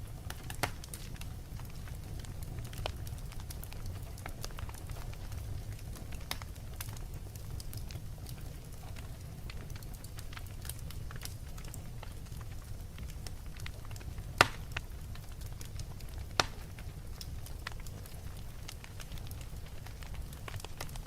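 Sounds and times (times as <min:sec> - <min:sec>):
wood fire crackling: 0:00.0 - 0:21.0
sharp pops of fire: 0:00.2 - 0:07.0, 0:10.0 - 0:21.0.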